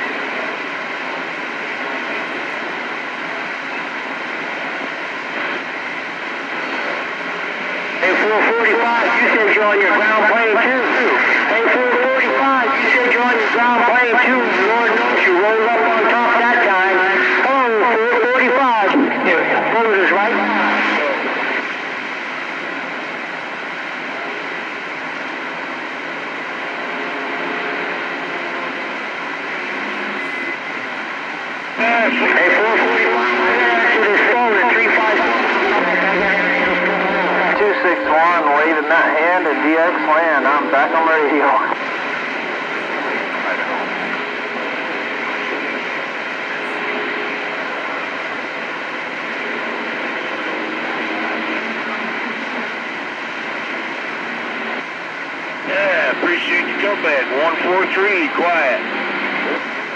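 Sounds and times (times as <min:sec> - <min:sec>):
faint steady radio tones: 0:00.0 - 0:59.9
radio static hiss: 0:00.0 - 0:59.9.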